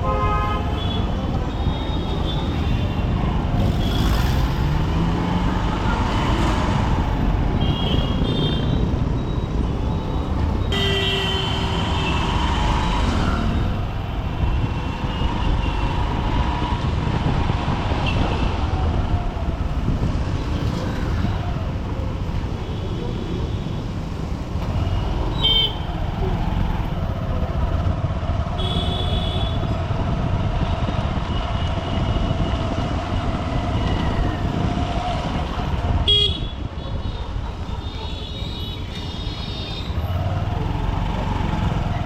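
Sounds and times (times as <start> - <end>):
traffic rumble: 0.0 - 42.0.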